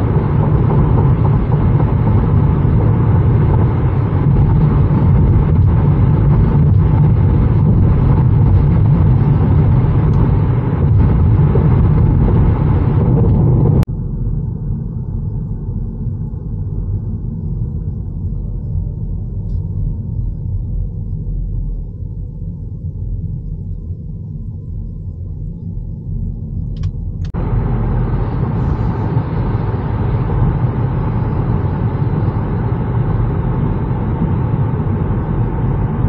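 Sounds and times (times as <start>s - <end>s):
car road and wind noise: 0.0s - 21.8s, 26.6s - 36.0s
low rumble of slower driving: 0.0s - 36.0s.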